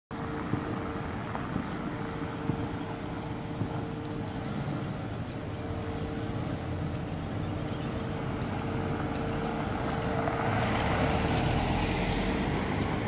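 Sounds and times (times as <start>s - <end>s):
road traffic rumble: 0.1s - 13.0s.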